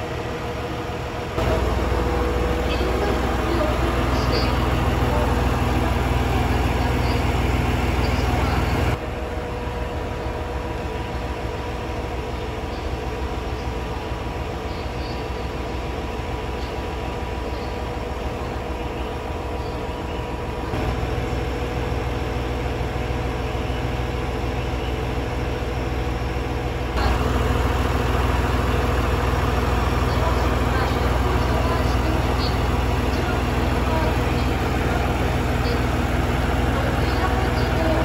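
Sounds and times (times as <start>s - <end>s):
constant hum: 0.0s - 38.0s
diesel train engine idling: 0.0s - 38.0s.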